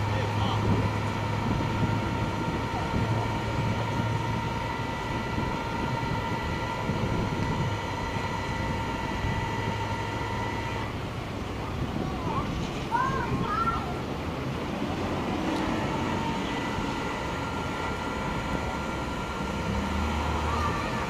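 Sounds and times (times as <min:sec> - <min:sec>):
street traffic: 0:00.0 - 0:21.0
truck engine hum: 0:00.0 - 0:21.0
winch whining: 0:00.0 - 0:21.0.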